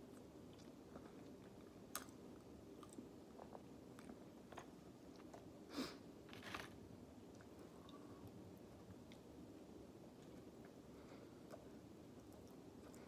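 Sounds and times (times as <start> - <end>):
faint chewing of food: 0.0 - 5.7, 6.3 - 13.0.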